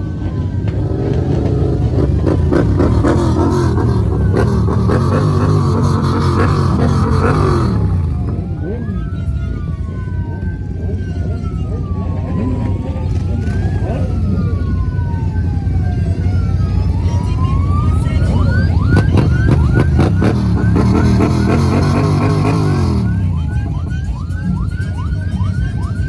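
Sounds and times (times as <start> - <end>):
motorcycle engines revving: 0.0 - 10.2, 10.8 - 26.0
electronic siren wailing: 0.0 - 26.0.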